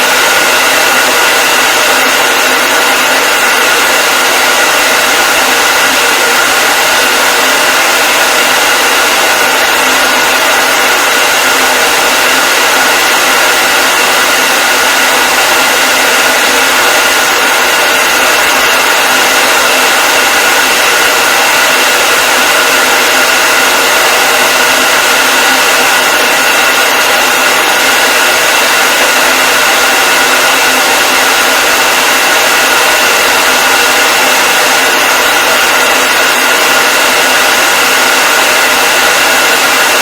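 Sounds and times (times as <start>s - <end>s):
hair dryer blowing air: 0.0s - 40.0s
hair dryer motor whine: 0.0s - 40.0s.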